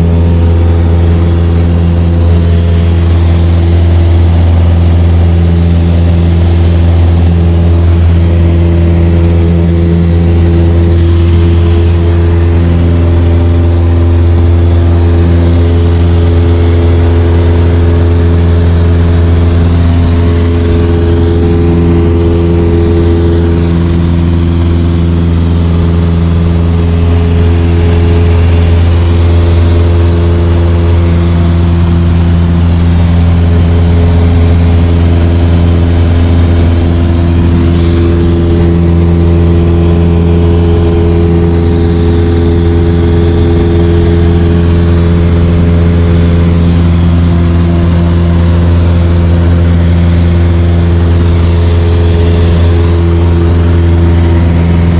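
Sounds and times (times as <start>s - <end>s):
light aircraft engine drone: 0.0s - 54.9s.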